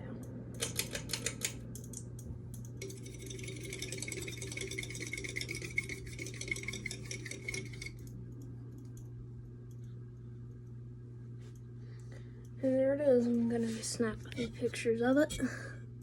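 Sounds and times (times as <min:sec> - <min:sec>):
ceiling fan ticking rattle: 0:00.0 - 0:13.4
fan low hum: 0:00.0 - 0:16.0.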